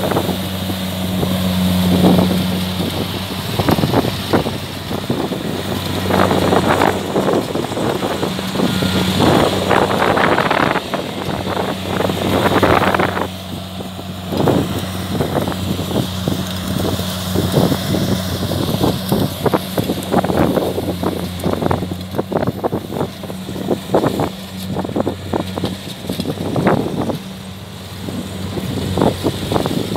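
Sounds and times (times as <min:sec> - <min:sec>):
combine harvester diesel engine hum: 0:00.0 - 0:29.9
dense crackling rustle: 0:00.0 - 0:29.9.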